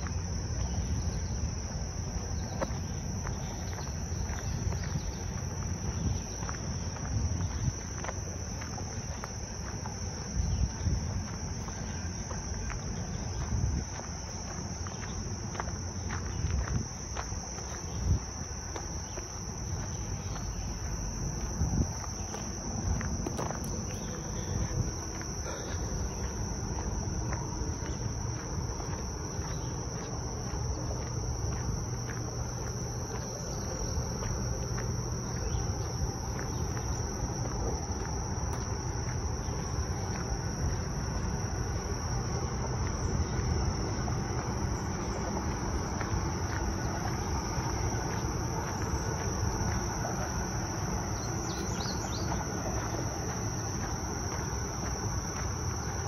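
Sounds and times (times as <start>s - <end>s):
crickets chirping: 0.0s - 56.0s
low rumbling noise: 0.0s - 56.0s.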